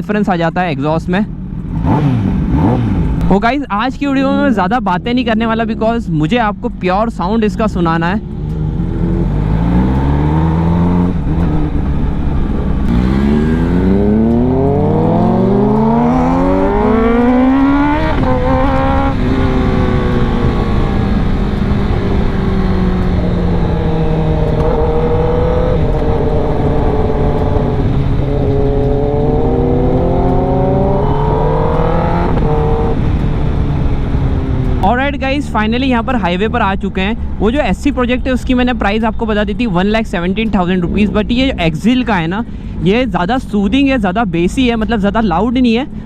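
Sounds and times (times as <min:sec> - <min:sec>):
motorcycle engine accelerating: 0:01.3 - 0:03.5, 0:04.1 - 0:42.4.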